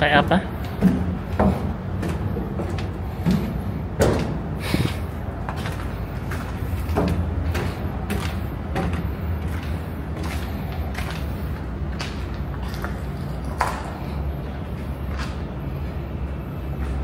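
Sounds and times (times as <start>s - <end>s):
footsteps climbing stairs: 0.0s - 17.0s
steady low hum: 0.0s - 17.0s.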